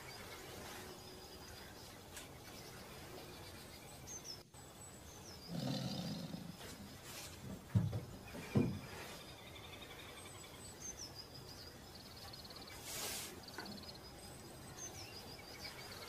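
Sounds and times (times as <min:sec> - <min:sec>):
birds chirping with high trills: 0:00.0 - 0:16.0
steady background hiss: 0:00.0 - 0:16.0.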